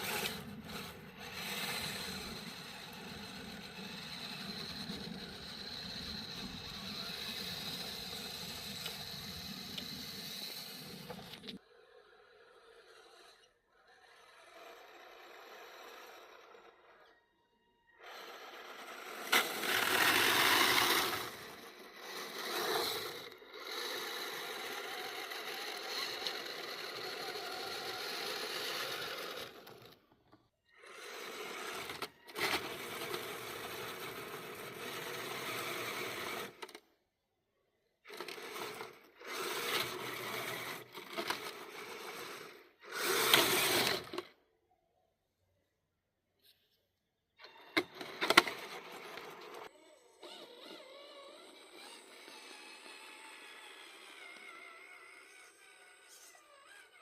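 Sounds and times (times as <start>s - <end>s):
electric motor and gears whining: 0.0s - 36.8s, 38.0s - 44.4s, 47.4s - 57.0s.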